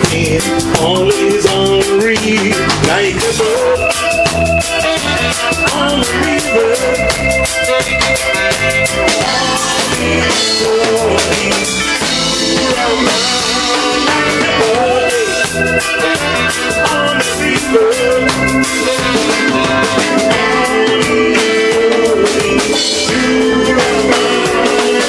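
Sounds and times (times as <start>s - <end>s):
drum kit: 0.0s - 25.0s
electric guitar: 0.0s - 25.0s
live band playing: 0.0s - 25.0s.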